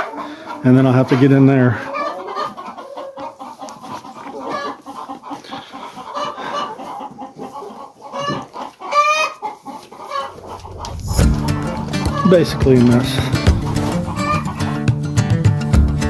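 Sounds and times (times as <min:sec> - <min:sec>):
chickens clucking: 0:00.0 - 0:15.3.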